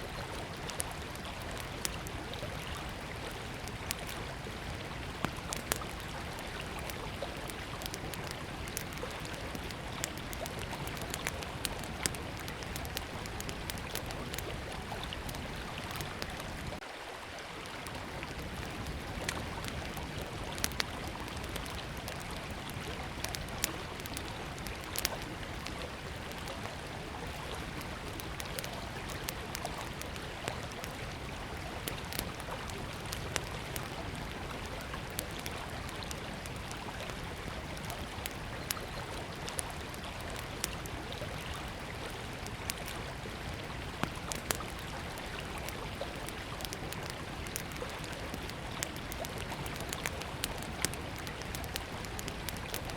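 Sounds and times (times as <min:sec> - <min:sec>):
wood fire crackling: 0:00.1 - 0:16.8, 0:17.6 - 0:52.9.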